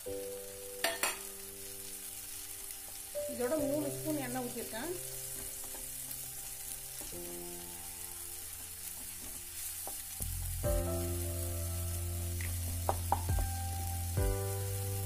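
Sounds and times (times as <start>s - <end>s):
flour sizzling in oil: 0.0s - 15.0s.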